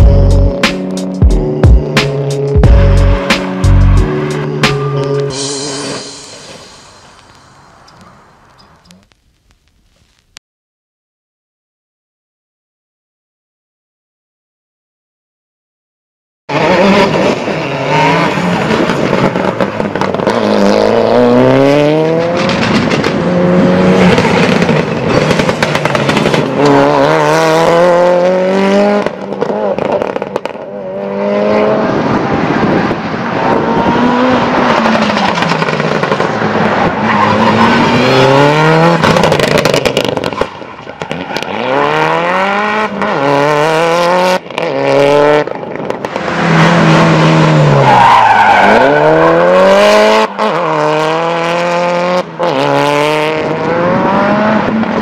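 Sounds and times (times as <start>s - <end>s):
car engine revving: 0.0s - 6.2s, 16.5s - 55.0s.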